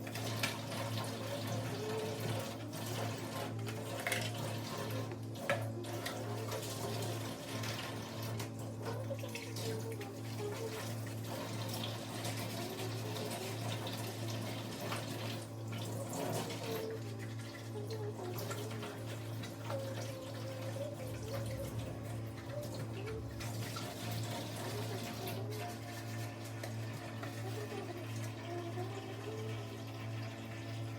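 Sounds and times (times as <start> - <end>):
tap water running into sink: 0.0 - 30.9.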